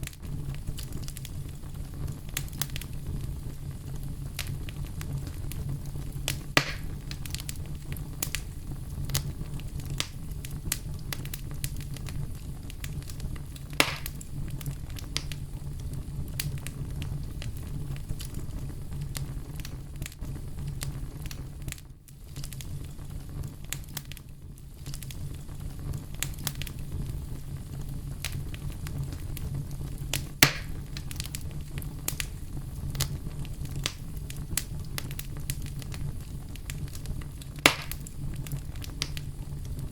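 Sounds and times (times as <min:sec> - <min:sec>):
campfire rumbling and crackling: 0:00.0 - 0:39.9
loud fire pops: 0:00.0 - 0:39.9.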